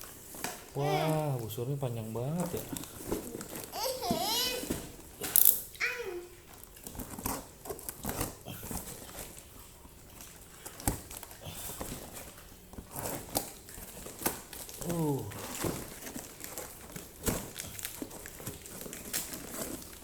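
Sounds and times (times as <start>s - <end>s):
cardboard parcel being opened: 0.0s - 5.4s, 6.5s - 20.0s.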